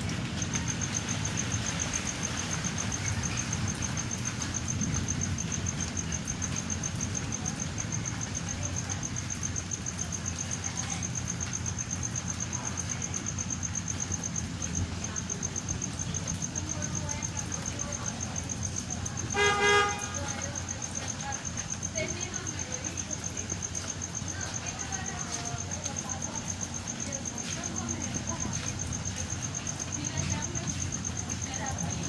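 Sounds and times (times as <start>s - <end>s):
cricket chirping: 0.0s - 32.0s
storm ambience hiss and rumble: 0.0s - 32.0s.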